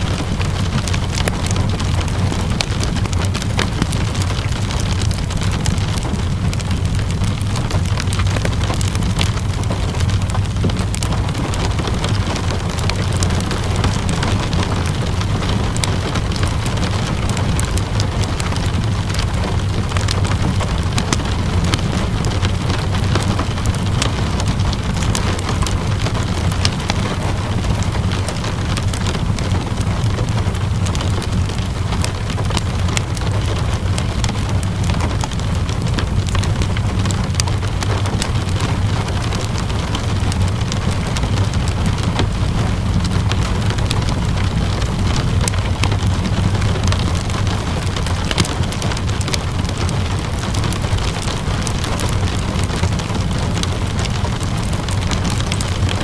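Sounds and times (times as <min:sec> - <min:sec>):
steady rainfall hiss: 0:00.0 - 0:56.0
wood fire crackling: 0:00.0 - 0:56.0.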